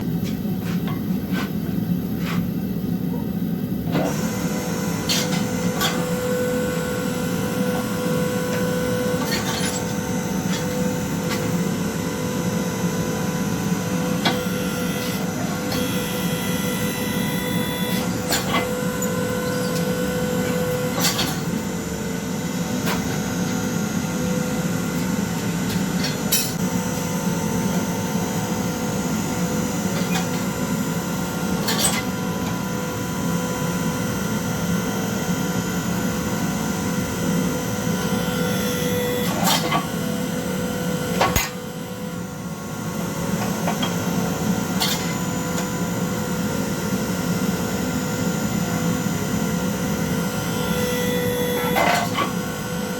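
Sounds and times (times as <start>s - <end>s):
forging press motor humming: 0.0s - 52.9s.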